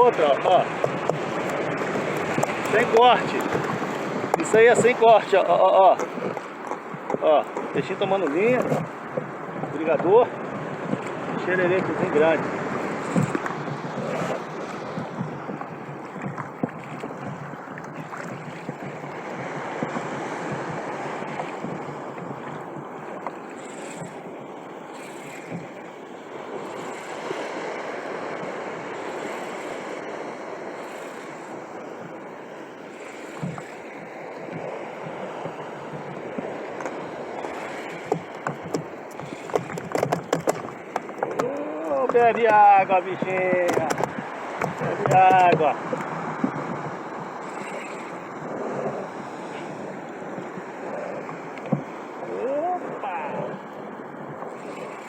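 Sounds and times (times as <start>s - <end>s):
water slapping around a kayak: 0.0s - 55.0s
wind on microphone: 0.0s - 55.0s.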